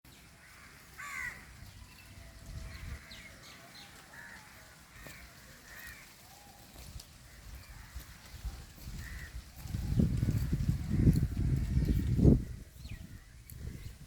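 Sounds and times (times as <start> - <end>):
birds calling harshly: 0.1 - 14.0.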